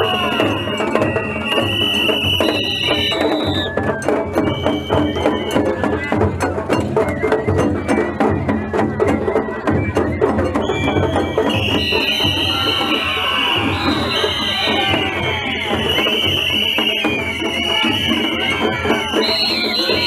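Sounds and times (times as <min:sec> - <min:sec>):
quick drum and percussion strikes: 0:00.0 - 0:20.0.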